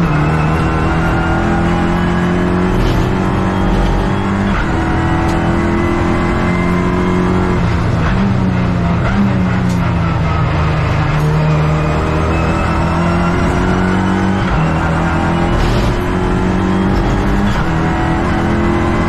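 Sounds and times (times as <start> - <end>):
race car engine running: 0.0 - 19.0.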